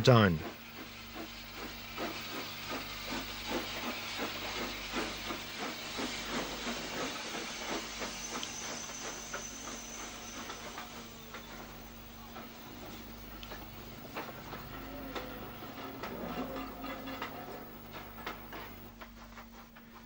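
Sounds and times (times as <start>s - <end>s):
steam hissing: 0.0s - 20.0s
steam locomotive exhaust beats: 0.0s - 20.0s.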